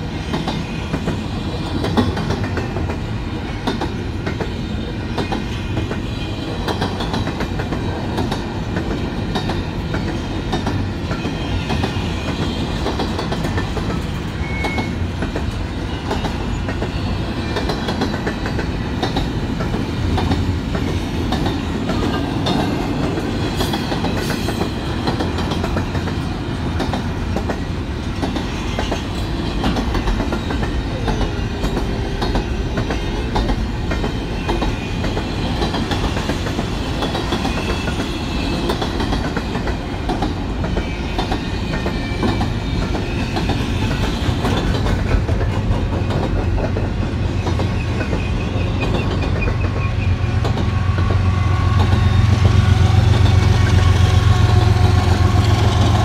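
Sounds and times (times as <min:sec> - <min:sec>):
train wheels clattering over rail joints: 0:00.2 - 0:53.4.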